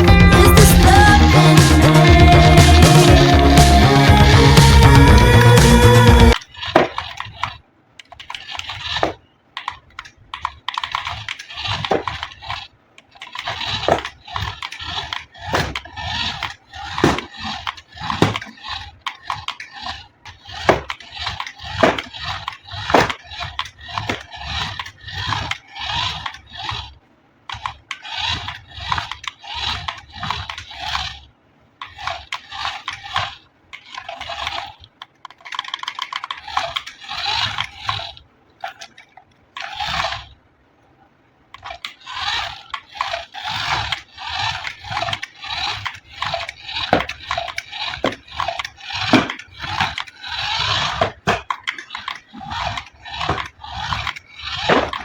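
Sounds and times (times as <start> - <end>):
packaging crinkling and scraping: 6.3 - 40.4, 41.5 - 55.0.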